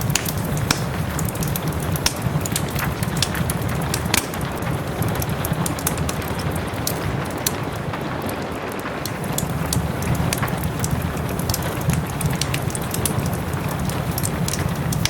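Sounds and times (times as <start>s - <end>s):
rain hissing: 0.0s - 15.0s
wood fire crackling and popping: 0.0s - 15.0s.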